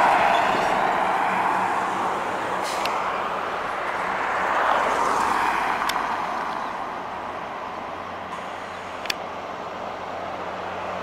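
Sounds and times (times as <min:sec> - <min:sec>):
highway traffic noise: 0:00.0 - 0:11.0.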